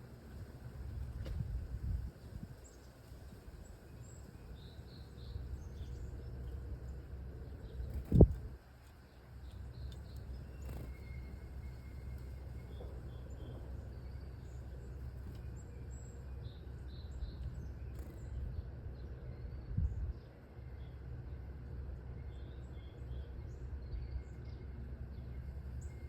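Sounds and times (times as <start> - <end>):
low outdoor rumble: 0.0 - 26.0
small birds chirping faintly: 0.0 - 26.0.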